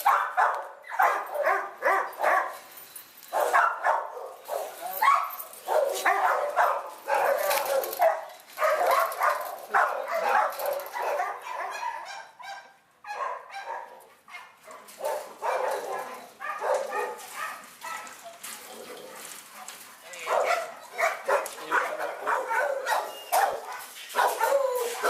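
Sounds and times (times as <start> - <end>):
dogs barking: 0.0 - 2.7, 3.3 - 25.0.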